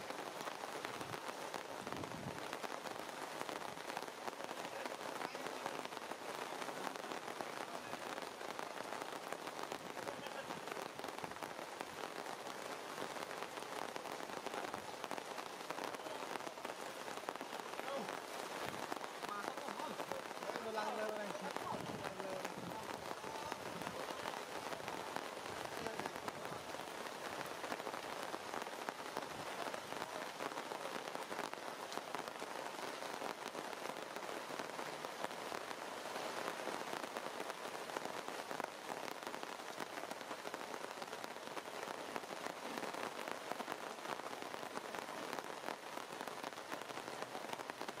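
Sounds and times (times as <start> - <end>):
rain falling on leafy trees: 0.0 - 48.0.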